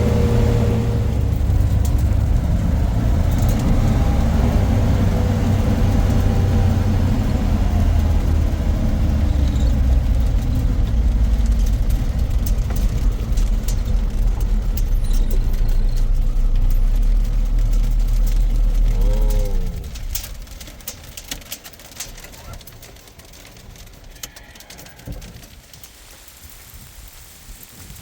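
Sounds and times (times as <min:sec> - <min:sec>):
vehicle engine rumbling: 0:00.0 - 0:27.2
light clicks and rattles: 0:00.4 - 0:26.0.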